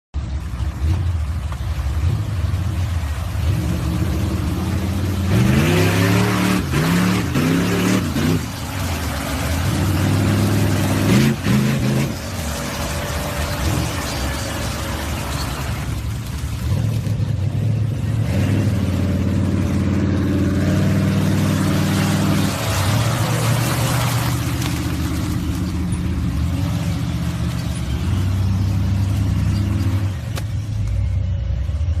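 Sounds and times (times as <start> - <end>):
car engine revving: 0.5 - 32.0.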